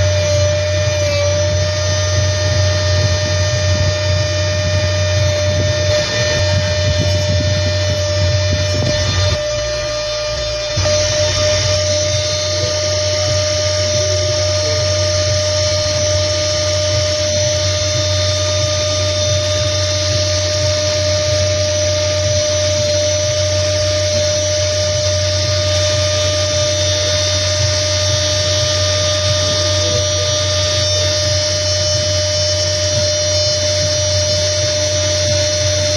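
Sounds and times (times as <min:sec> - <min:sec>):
rotary tool whining: 0:00.0 - 0:35.9.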